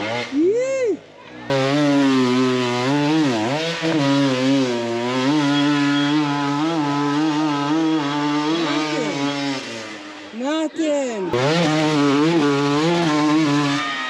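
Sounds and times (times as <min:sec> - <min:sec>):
dirt bike engine revving: 0:00.0 - 0:00.6, 0:01.2 - 0:14.0.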